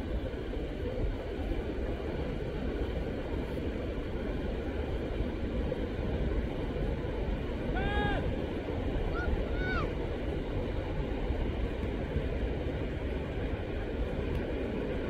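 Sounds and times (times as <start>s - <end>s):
wind and surf rumble: 0.0s - 15.0s.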